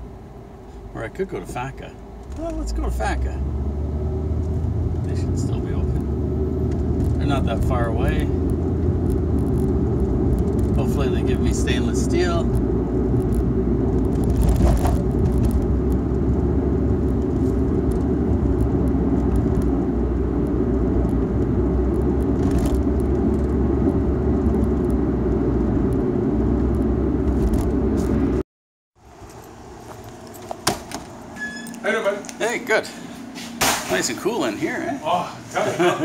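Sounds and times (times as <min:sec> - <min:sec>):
car road and engine rumble: 0:00.0 - 0:28.4, 0:29.0 - 0:34.8.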